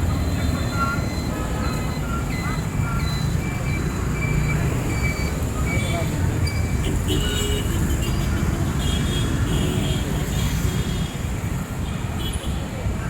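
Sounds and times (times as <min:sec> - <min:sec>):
vehicles passing rumble: 0:00.0 - 0:13.0.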